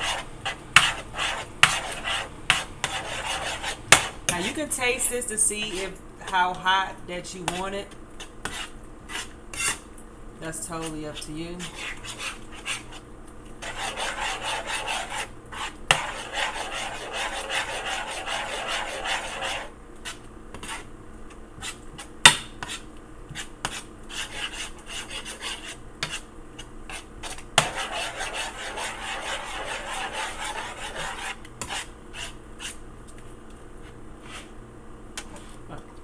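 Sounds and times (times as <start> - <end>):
utensil scraping a pan: 0.0 - 6.5, 7.4 - 9.9, 10.5 - 13.0, 13.6 - 20.9, 21.6 - 26.3, 26.9 - 32.8, 33.8 - 34.5.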